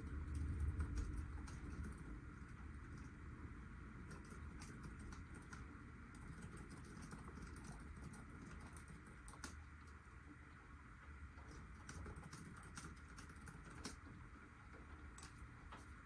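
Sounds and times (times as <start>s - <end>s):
faint steady rain: 0.0s - 16.0s.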